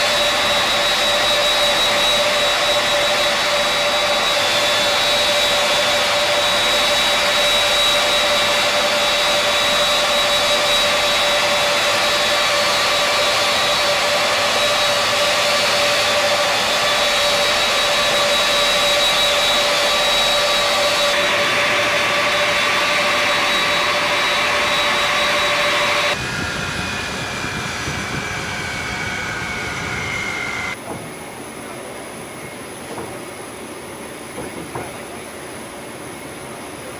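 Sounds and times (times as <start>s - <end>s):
jet turbine whine: 0.0s - 36.9s.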